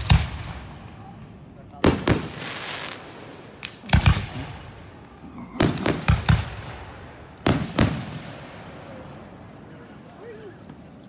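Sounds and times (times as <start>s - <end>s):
firework shells booming: 0.0s - 8.9s.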